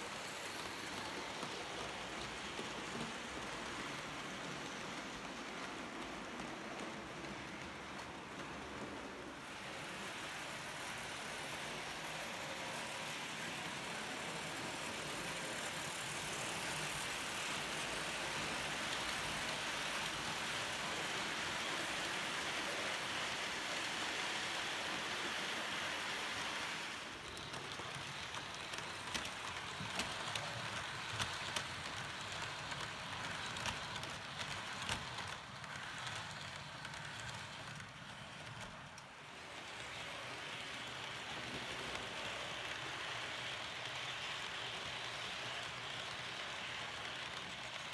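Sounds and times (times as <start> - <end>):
model train wheels on track: 0.0 - 47.9.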